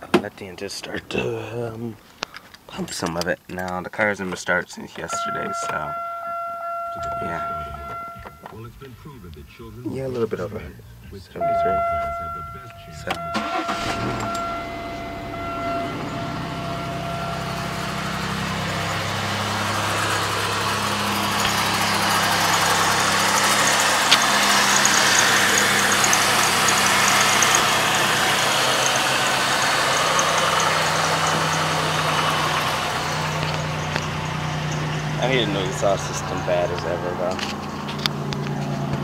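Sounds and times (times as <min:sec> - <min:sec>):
car engine idling: 0:05.0 - 0:39.0.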